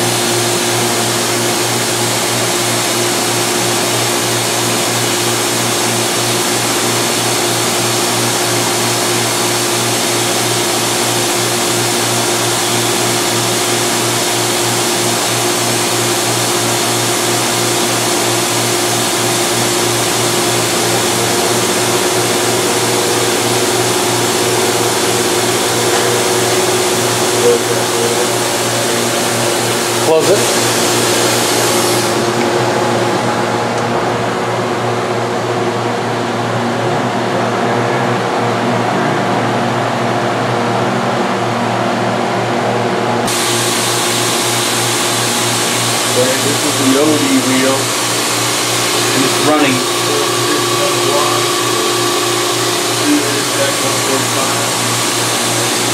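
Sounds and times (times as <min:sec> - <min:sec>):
higher machine tone: 0:00.0 - 0:35.4, 0:43.3 - 0:55.9
grinder machine hum: 0:00.0 - 0:39.3, 0:43.2 - 0:55.9.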